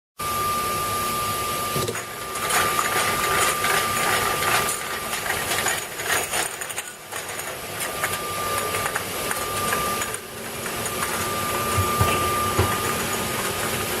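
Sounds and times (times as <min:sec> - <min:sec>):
machine mechanical hum with whine: 0:00.2 - 0:14.0.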